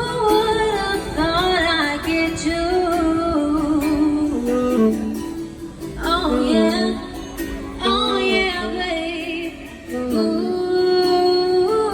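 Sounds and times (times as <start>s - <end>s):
person singing long notes: 0.0s - 11.9s.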